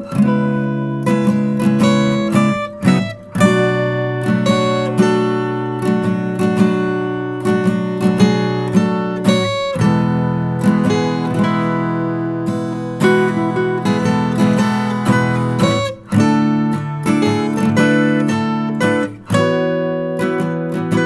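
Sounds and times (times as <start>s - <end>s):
acoustic guitar picking and strumming: 0.0s - 21.0s.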